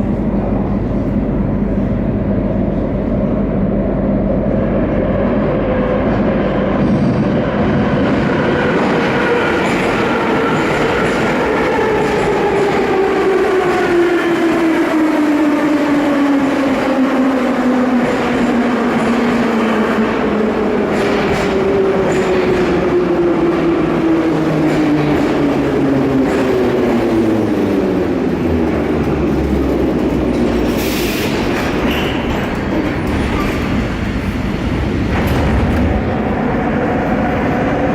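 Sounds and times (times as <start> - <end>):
train rumble: 0.0 - 37.9.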